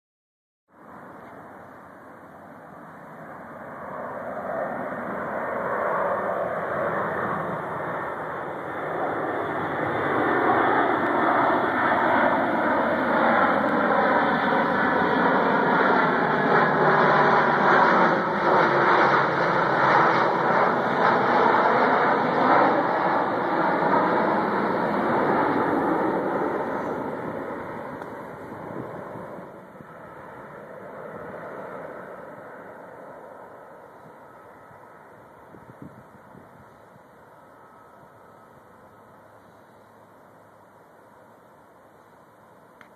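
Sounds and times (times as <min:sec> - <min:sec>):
turboprop aircraft engines droning: 0:00.7 - 0:42.9.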